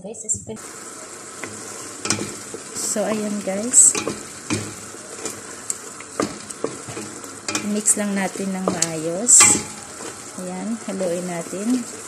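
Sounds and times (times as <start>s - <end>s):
sauce sizzling: 0.6s - 12.0s.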